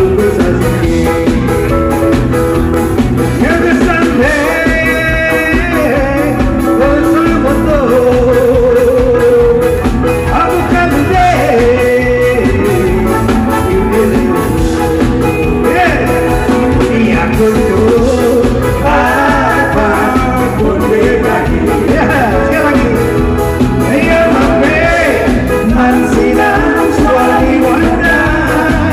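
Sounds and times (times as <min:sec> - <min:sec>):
man singing into a microphone: 0:00.0 - 0:01.8, 0:03.4 - 0:28.9
live band playing: 0:00.0 - 0:28.9.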